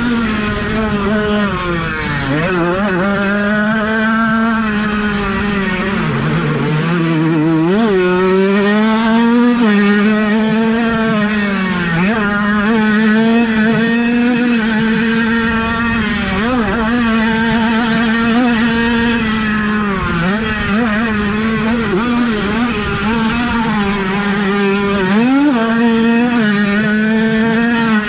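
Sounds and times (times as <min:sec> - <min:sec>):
two-stroke dirt bike revving: 0:00.0 - 0:28.0.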